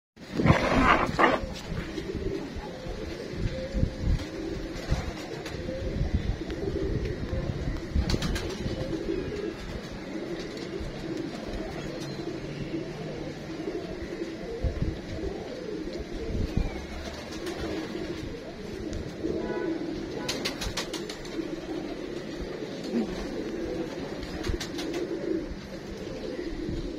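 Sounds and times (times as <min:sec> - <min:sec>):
pigeons cooing: 0:00.2 - 0:26.9.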